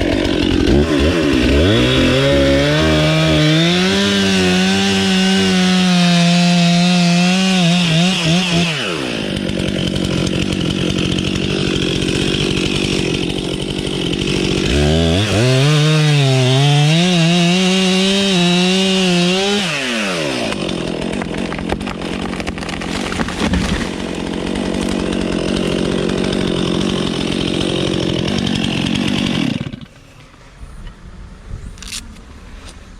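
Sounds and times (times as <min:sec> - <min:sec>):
chainsaw cutting wood: 0:00.0 - 0:30.4.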